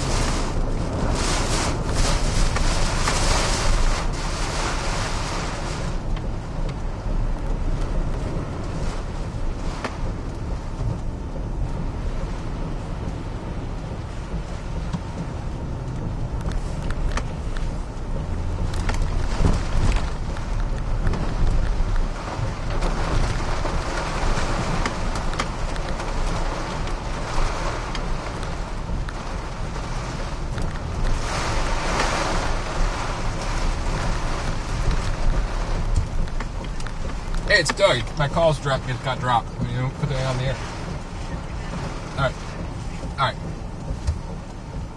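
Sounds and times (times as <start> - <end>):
strong wind: 0.0 - 38.2
engine and road rumble: 0.0 - 44.9
heavy rain lashing a truck: 0.0 - 44.9
sharp ticks on vehicle: 6.0 - 8.9, 9.7 - 31.2, 33.2 - 44.9.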